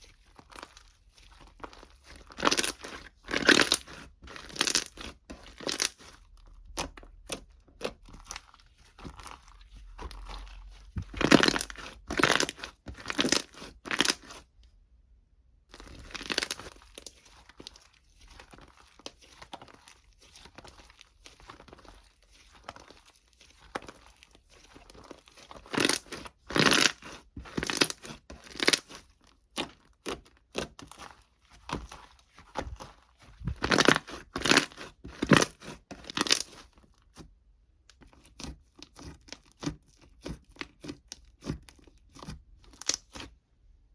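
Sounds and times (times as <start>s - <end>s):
crinkling and tearing: 0.0s - 14.5s, 15.7s - 37.1s.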